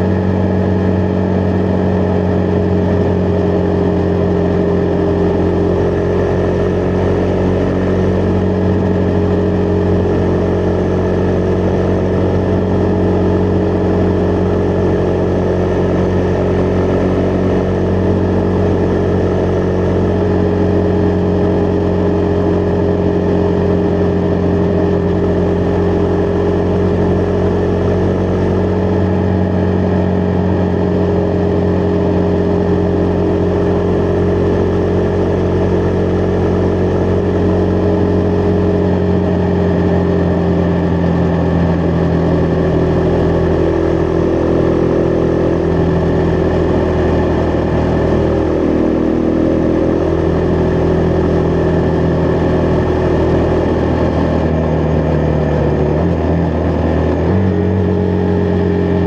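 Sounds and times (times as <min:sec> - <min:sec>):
motorcycle engine cruising: 0:00.0 - 0:59.0
road noise: 0:00.0 - 0:59.0.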